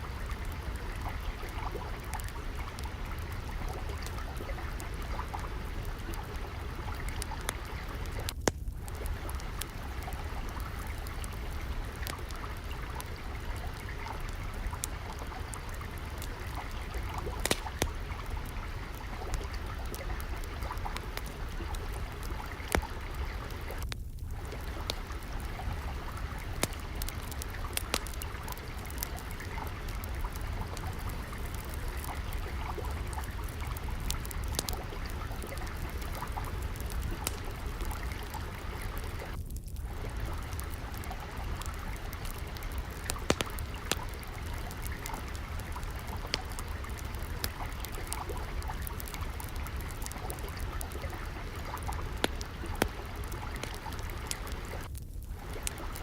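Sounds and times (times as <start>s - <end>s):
water trickling: 0.0s - 56.0s
wood fire crackling: 0.0s - 56.0s.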